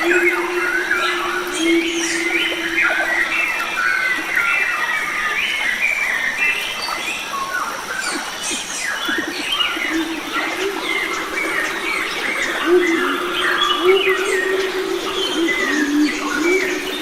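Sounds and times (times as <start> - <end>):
birds singing: 0.0 - 17.0
steady background hiss: 0.0 - 17.0.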